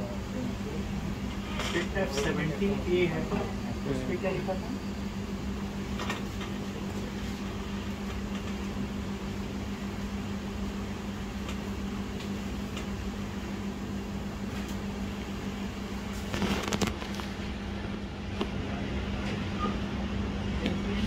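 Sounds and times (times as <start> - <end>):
electric fan motor hum: 0.0 - 21.0.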